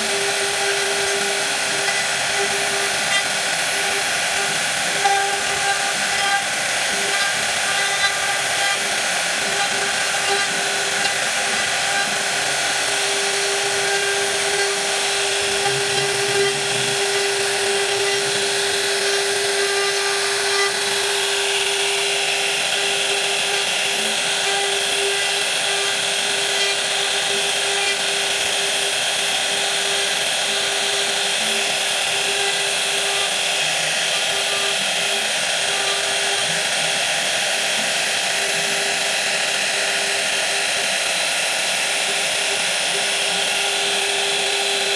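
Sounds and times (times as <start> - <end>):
power tool whine: 0.0 - 44.9.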